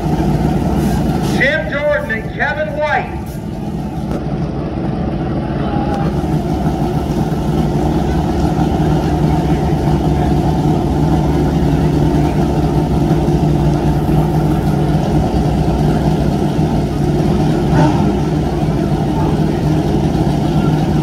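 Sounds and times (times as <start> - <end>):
motorcycle engines idling: 0.0 - 21.0.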